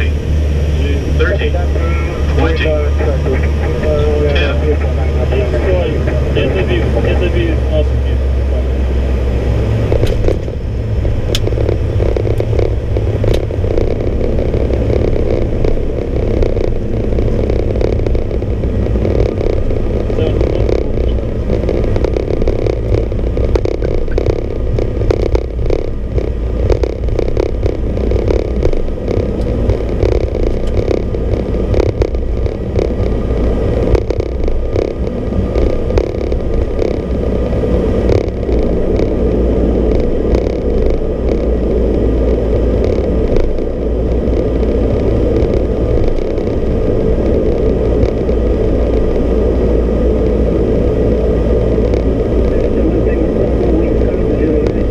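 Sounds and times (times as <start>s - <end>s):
deep rumble: 0.0s - 54.9s
turboprop engines droning: 0.0s - 54.9s.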